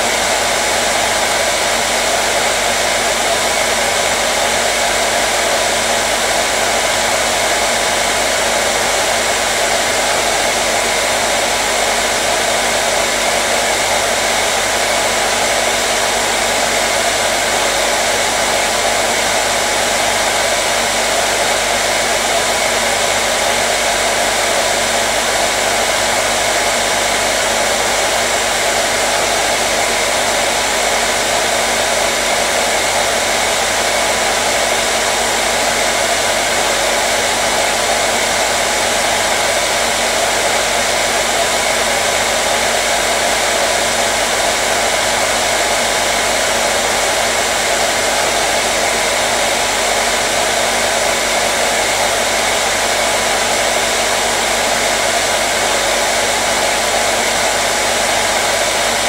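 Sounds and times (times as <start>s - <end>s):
hair dryer blowing air: 0.0s - 59.0s.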